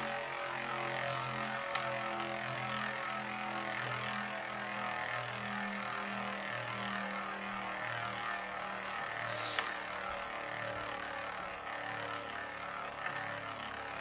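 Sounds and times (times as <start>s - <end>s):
spinning tops whirring: 0.0s - 14.0s.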